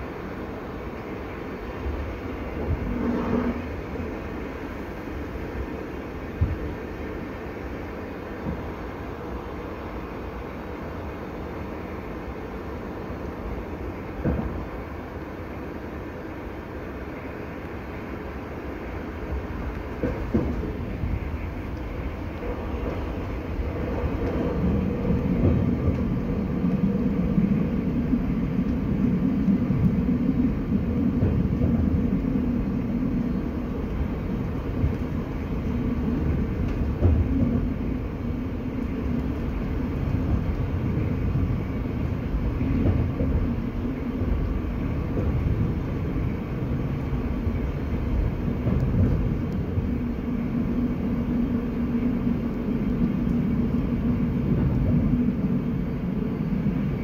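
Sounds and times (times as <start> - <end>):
constant hum: 0.0 - 57.0
train wheels rumbling on track: 0.0 - 57.0.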